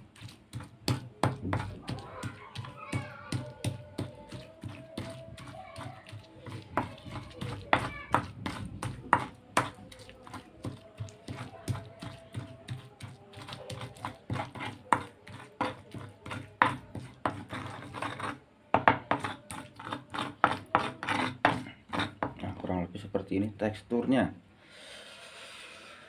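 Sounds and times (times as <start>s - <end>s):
pestle pounding in a mortar: 0.0s - 22.6s
pestle scraping in a mortar: 0.0s - 22.7s.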